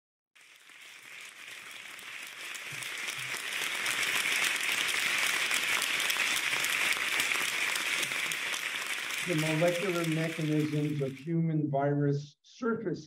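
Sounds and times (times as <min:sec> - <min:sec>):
audience applauding: 0:00.4 - 0:11.3.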